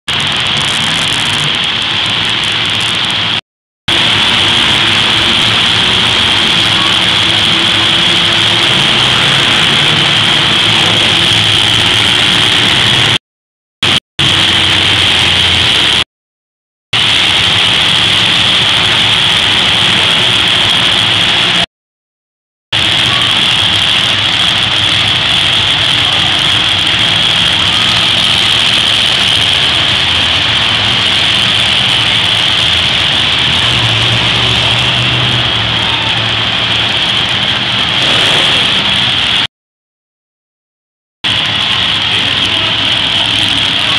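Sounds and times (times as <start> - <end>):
monster truck engines running: 0.0 - 13.2, 13.8 - 16.0, 17.0 - 21.7, 22.8 - 39.5, 41.2 - 43.9.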